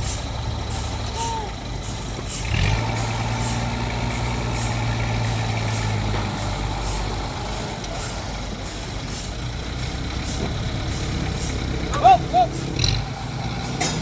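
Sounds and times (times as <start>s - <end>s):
heavy machinery running: 0.0s - 14.0s.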